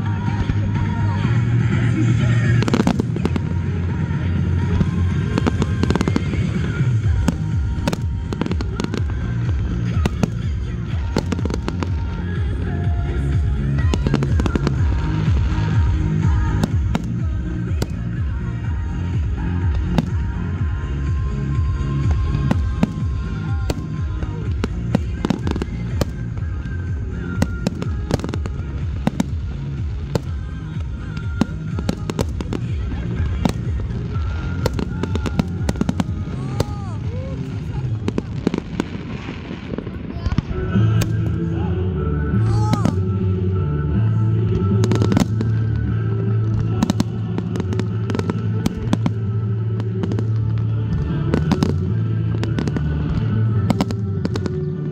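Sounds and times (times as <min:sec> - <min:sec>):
fireworks bangs: 0:00.0 - 0:41.5, 0:44.4 - 0:54.9
loud music: 0:00.0 - 0:54.9.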